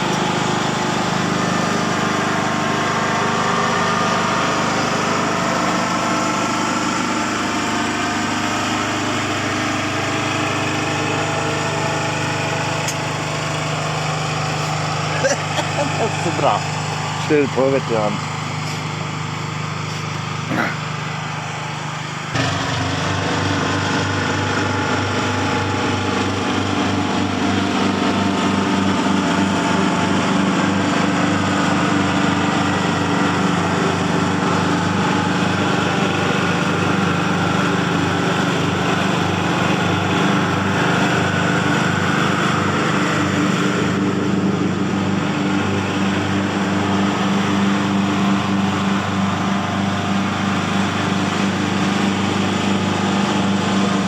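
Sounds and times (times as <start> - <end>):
lawn mower engine cutting grass: 0.0 - 54.0.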